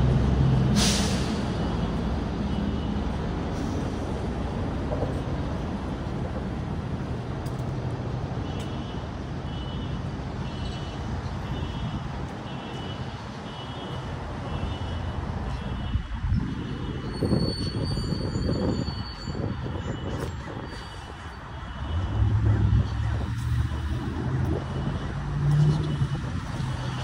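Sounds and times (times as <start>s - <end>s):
city traffic rumble: 0.0s - 27.0s.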